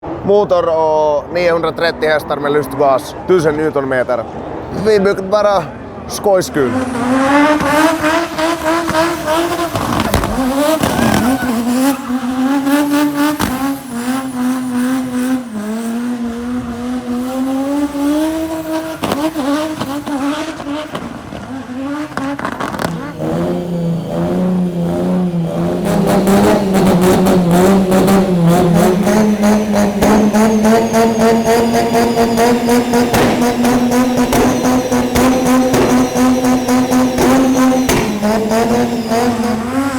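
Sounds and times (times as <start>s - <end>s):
car engine at high revs: 6.0s - 39.9s.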